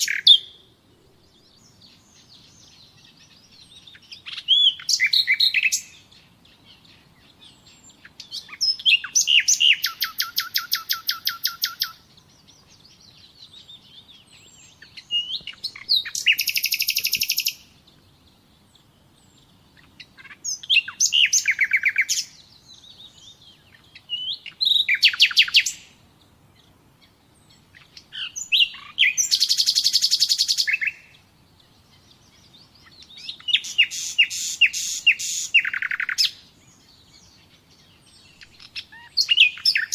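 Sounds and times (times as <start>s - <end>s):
songbird singing with trills: 0.0s - 39.9s.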